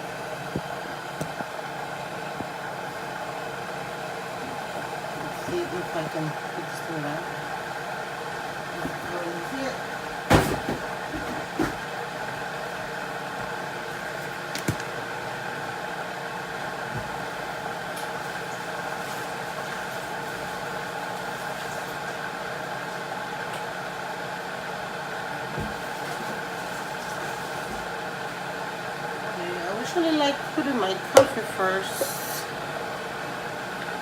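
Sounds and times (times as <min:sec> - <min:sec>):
electric kettle heating water: 0:00.0 - 0:34.0.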